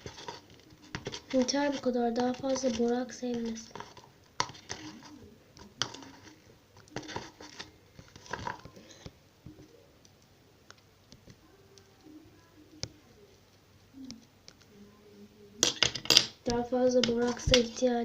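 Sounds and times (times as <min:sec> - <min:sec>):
faint handling noises: 0:00.0 - 0:18.0.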